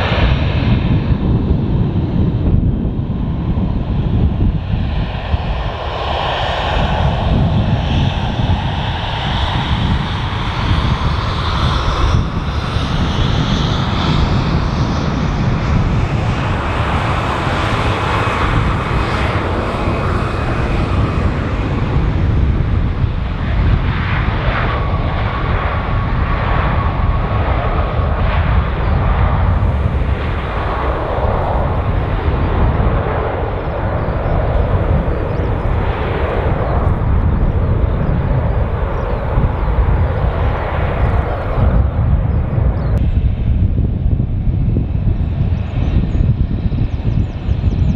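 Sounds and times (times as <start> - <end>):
jet engines rumbling: 0.0 - 47.9.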